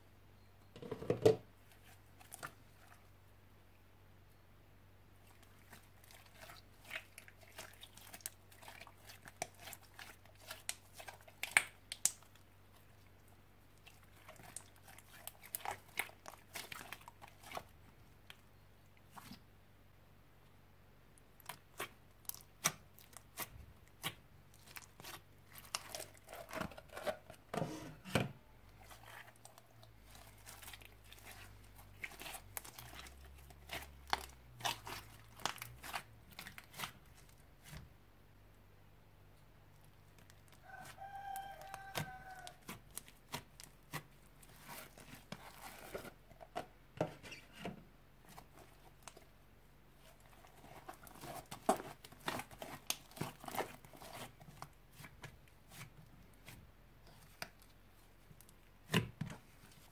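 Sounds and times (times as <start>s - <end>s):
slime kneaded by hand: 5.2s - 19.5s, 21.3s - 28.1s, 28.7s - 38.0s, 39.7s - 47.4s, 48.2s - 59.9s.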